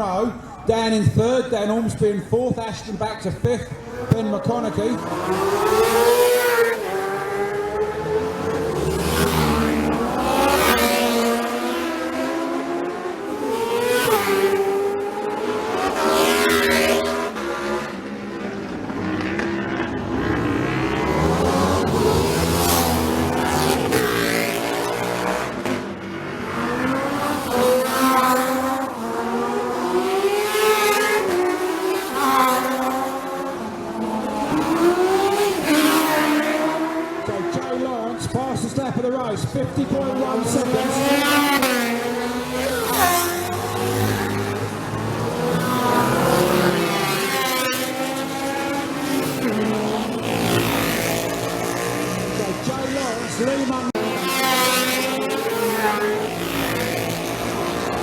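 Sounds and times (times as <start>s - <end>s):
racing motorcycles passing: 0.0s - 58.0s.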